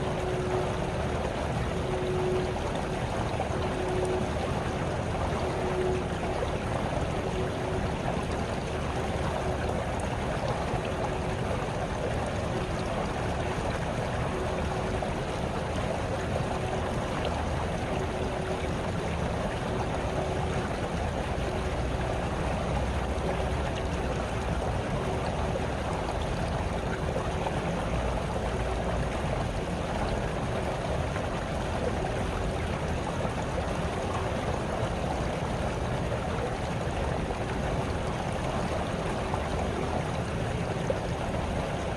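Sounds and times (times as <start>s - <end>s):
brook babbling: 0.0s - 41.9s.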